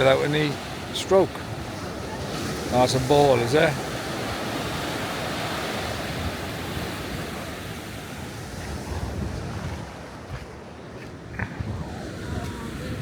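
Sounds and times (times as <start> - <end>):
sea surf washing on shore: 0.0 - 13.0
wind gusting on microphone: 0.0 - 13.0.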